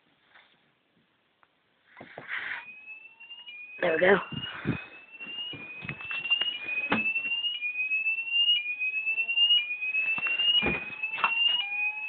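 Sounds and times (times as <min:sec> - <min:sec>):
fire alarm sweep tone: 0:02.3 - 0:12.0.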